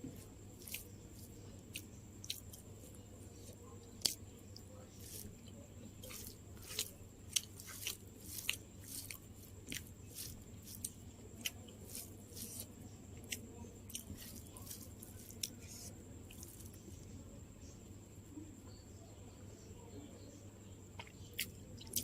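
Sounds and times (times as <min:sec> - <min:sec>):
person chewing food: 0:00.0 - 0:16.8, 0:21.0 - 0:22.0.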